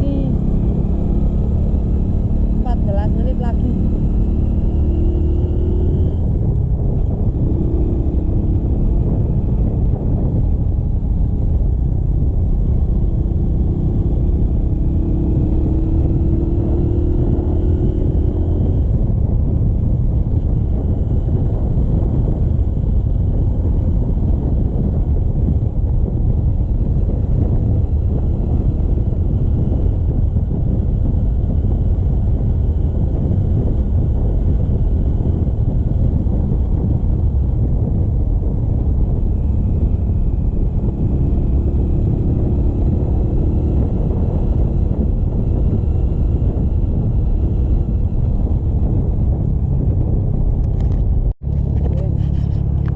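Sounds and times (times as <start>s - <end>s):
faint engine whine: 0.0s - 52.9s
motorcycle engine rumble: 0.0s - 52.9s
wind and road noise: 0.0s - 52.9s.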